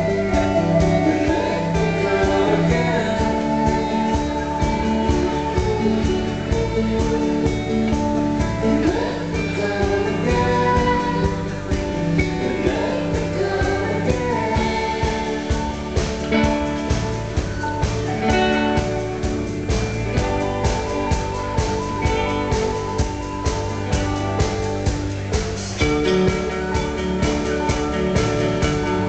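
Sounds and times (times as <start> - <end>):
electric guitar: 0.0 - 29.0
person singing: 0.0 - 29.0
steady beat: 0.0 - 29.0.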